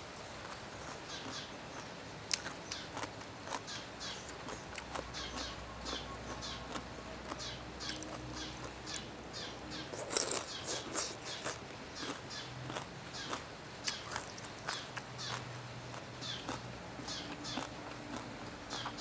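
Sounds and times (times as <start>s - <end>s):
birds chirping: 0.8s - 19.0s.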